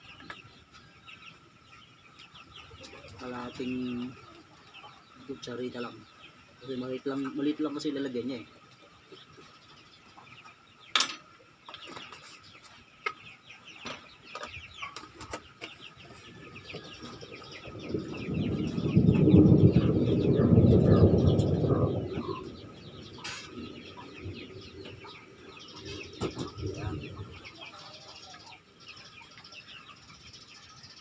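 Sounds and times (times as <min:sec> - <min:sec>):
chicks cheeping: 0:00.0 - 0:31.0.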